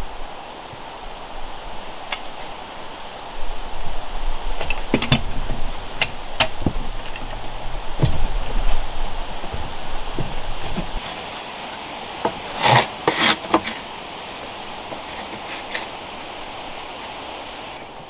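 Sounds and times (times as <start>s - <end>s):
low rushing noise: 0.0s - 18.0s.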